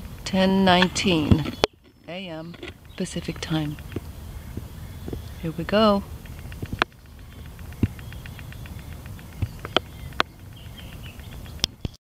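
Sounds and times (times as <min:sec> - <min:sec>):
insects chirping: 0:00.0 - 0:11.9.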